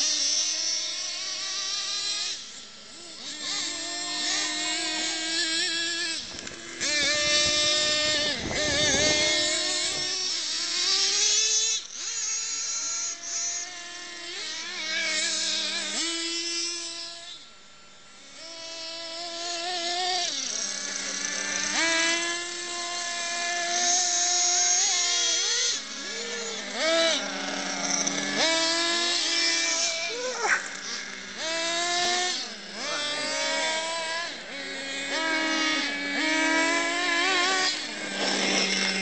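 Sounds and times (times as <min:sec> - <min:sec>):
model car motors revving: 0:00.0 - 0:39.0.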